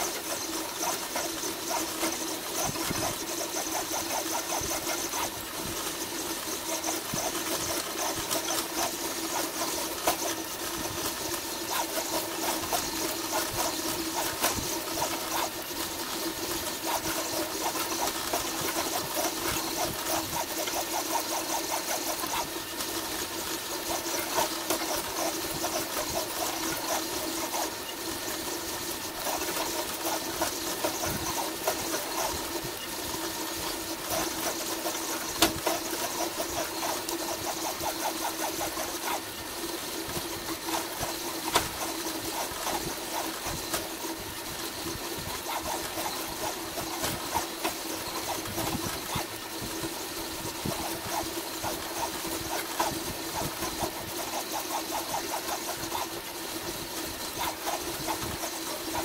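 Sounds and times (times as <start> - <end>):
printer motors whining: 0.0 - 59.0
rapid irregular ticking: 0.0 - 59.0.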